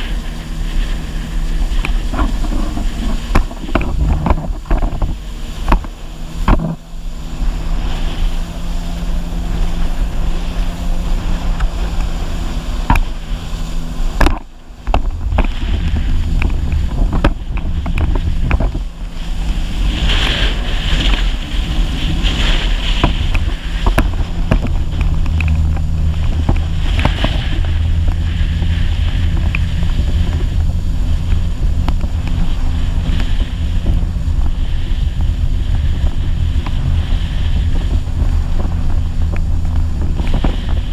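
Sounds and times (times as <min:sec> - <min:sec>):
hull slapping water: 0:00.0 - 0:40.9
watercraft engine running: 0:00.0 - 0:40.9
wind buffeting microphone: 0:00.0 - 0:40.9.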